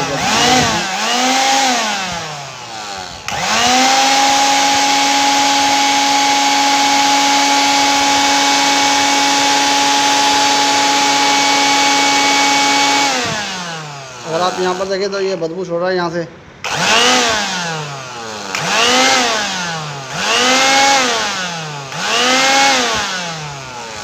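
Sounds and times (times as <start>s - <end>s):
blender motor whine: 0.0s - 15.2s, 16.6s - 24.0s.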